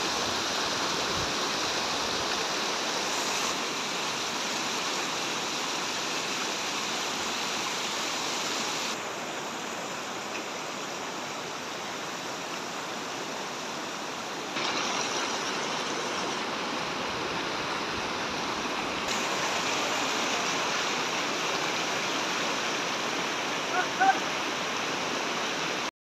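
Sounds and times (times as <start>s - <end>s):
floodwater rushing: 0.0s - 25.9s.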